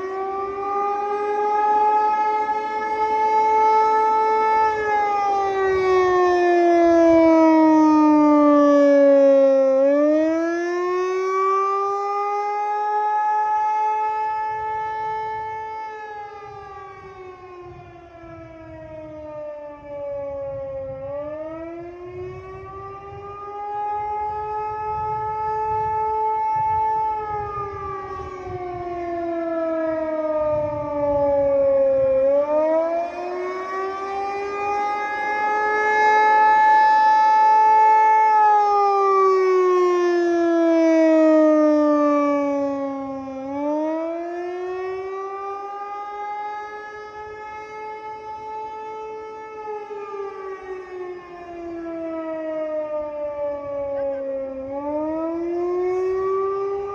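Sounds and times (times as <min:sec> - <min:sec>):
warning siren wailing: 0:00.0 - 0:56.9.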